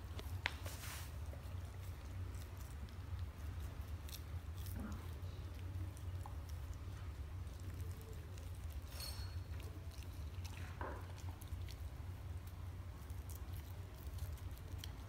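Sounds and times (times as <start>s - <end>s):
dog licking and gnawing meat: 0.0s - 15.0s
low steady hum: 0.0s - 15.0s
teeth clicking on meat: 1.5s - 15.0s.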